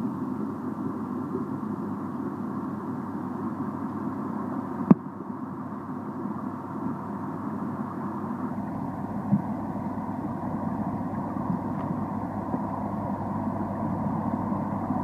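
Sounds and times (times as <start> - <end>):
tank pump humming: 0.0 - 15.0.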